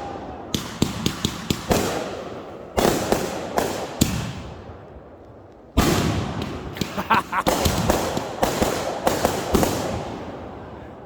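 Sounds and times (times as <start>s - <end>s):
fireworks bangs and booms: 0.0s - 11.0s.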